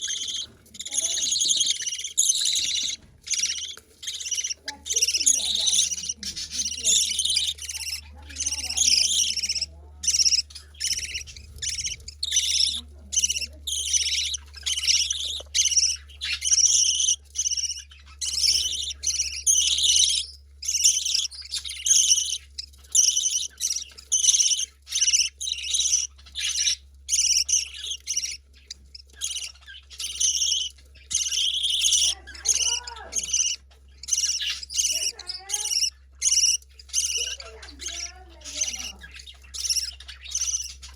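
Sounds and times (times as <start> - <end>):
baby budgerigar begging calls: 0.0 - 40.9
steady low hum: 0.0 - 40.9.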